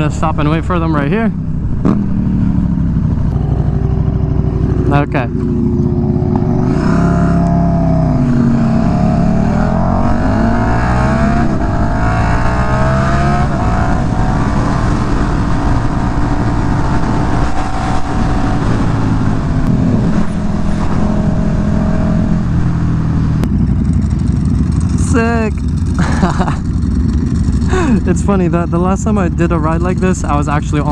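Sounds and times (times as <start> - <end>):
motorcycle engines revving: 0.0 - 30.9.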